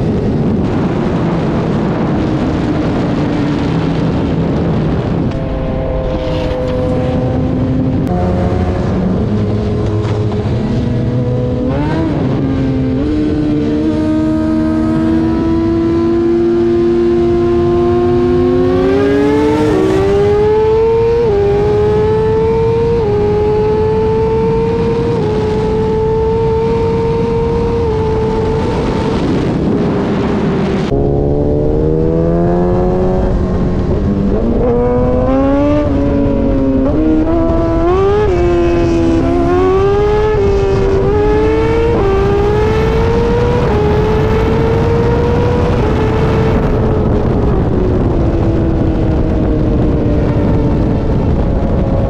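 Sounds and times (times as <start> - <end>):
motorcycle engine shifting gears: 0.0 - 52.0
rush of noise: 0.0 - 52.0.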